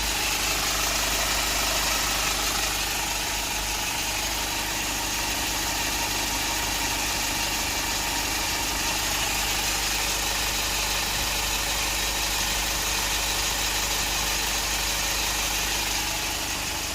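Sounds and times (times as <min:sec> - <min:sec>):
truck engine idling: 0:00.0 - 0:16.9.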